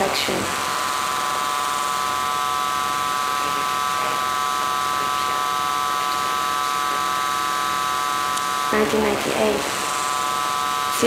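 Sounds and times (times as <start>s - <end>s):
steady electronic drone: 0.0s - 11.0s.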